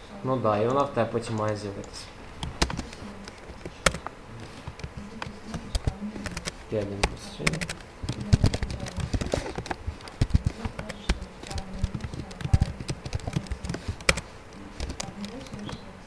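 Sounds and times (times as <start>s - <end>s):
steady low hum: 0.0s - 16.0s
keyboard typing clicks: 0.6s - 15.9s.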